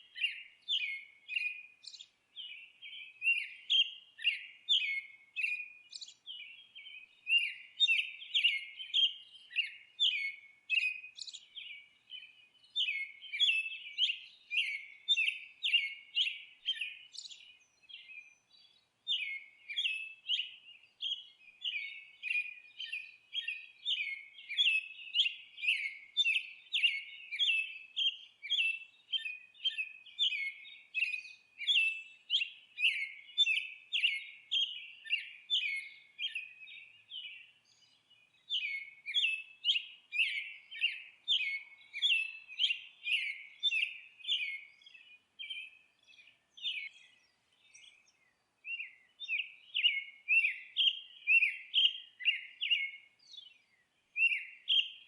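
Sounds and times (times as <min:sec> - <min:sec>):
small songbird chirping: 0:00.0 - 0:55.0.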